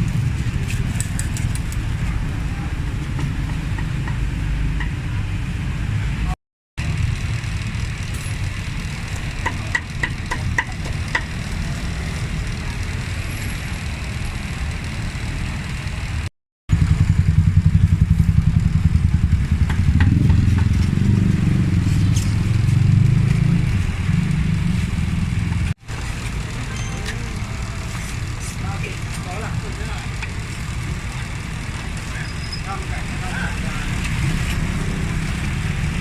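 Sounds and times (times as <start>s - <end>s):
traffic engine rumble: 0.0s - 36.0s.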